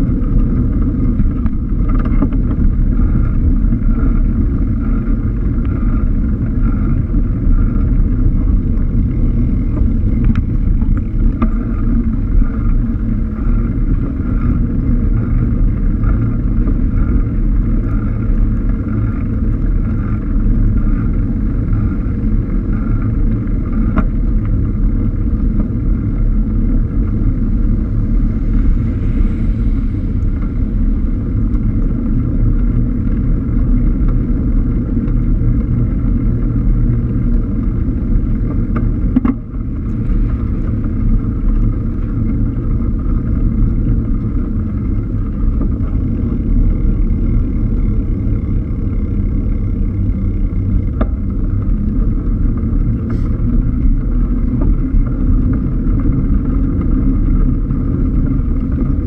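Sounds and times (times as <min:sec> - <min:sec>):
road rumble: 0:00.0 - 0:59.0
wind on microphone: 0:00.0 - 0:59.0.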